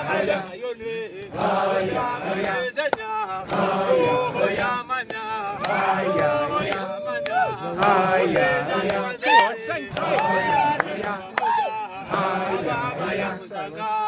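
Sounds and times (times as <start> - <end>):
group chanting and singing: 0.0 - 14.0
hand claps: 1.3 - 13.3.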